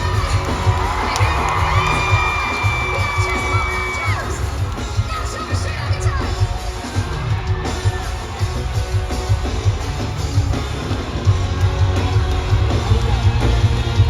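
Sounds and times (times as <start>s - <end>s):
live band music: 0.0s - 14.0s.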